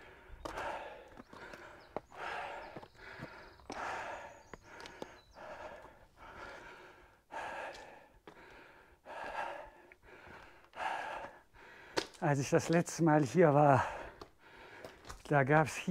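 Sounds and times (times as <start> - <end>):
man breathing hard: 0.0 - 12.2, 13.6 - 15.2.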